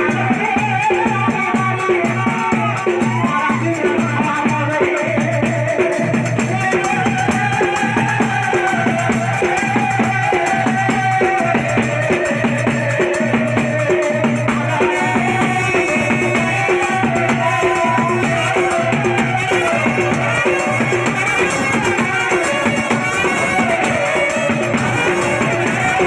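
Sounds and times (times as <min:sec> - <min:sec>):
drums: 0:00.0 - 0:26.0
folk devotional music: 0:00.0 - 0:26.0.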